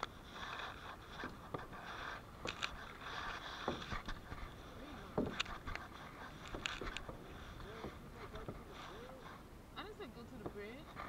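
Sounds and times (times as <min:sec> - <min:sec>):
paddle splashing in water: 0:00.0 - 0:08.9
water swishing against hull: 0:00.0 - 0:11.0.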